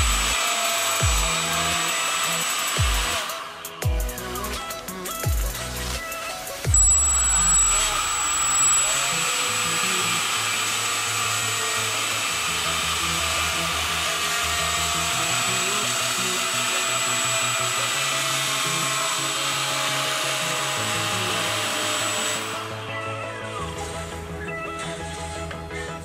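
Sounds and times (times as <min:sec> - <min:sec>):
electric fan whining and whistling: 0:00.0 - 0:26.0.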